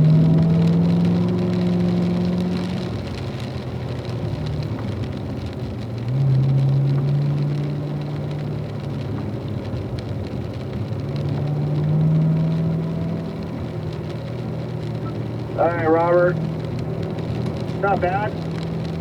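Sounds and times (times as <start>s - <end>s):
car engine under load: 0.0s - 19.0s.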